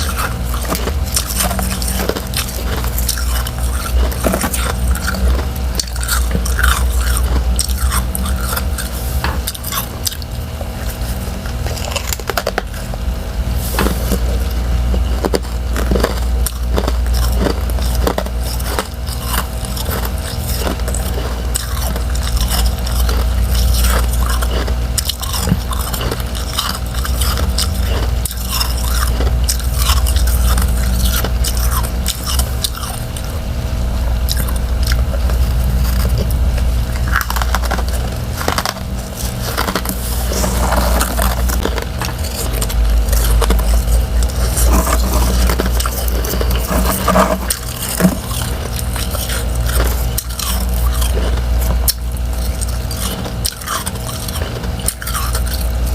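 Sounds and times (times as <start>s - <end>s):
chewing crunchy frost: 0.0s - 55.9s
steady low hum: 0.0s - 55.9s.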